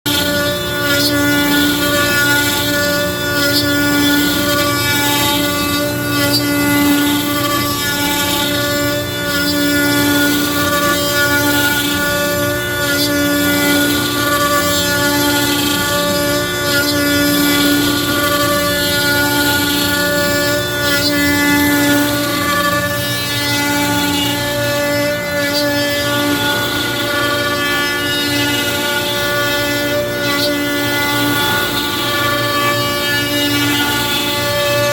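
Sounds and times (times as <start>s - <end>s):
router motor whining: 0.1s - 34.9s.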